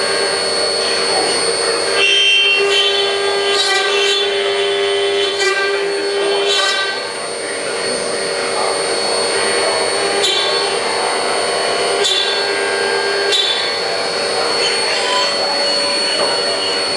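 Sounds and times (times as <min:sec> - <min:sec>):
milling machine cutting: 0:00.0 - 0:16.9.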